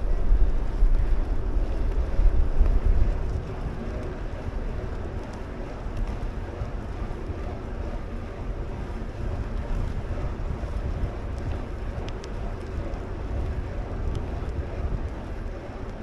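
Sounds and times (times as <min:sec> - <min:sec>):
wind buffeting microphone: 0:00.0 - 0:16.0
faint ticks: 0:00.1 - 0:16.0.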